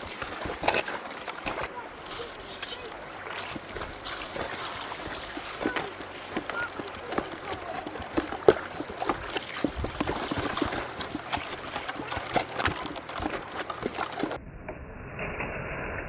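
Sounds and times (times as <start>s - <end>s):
gravel and stones rattling: 0.0s - 14.4s
water sloshing: 0.0s - 14.4s.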